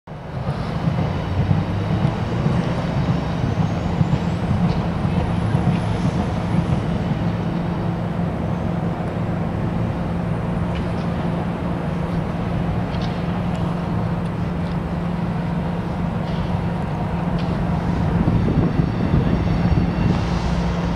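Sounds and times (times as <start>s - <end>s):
diesel locomotive engines droning: 0.1s - 20.9s.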